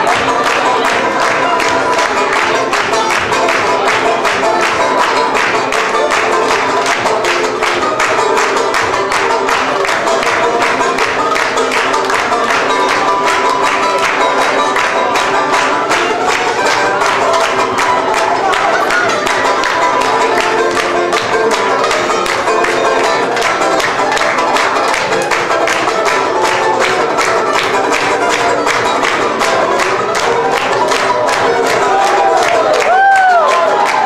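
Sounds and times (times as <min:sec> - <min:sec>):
banjo picking: 0:00.0 - 0:34.0.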